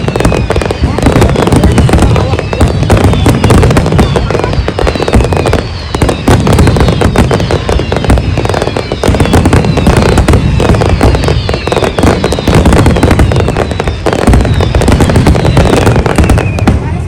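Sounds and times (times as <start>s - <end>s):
fireworks bangs and crackling: 0.0s - 17.0s
fireworks falling whistles: 0.0s - 17.0s.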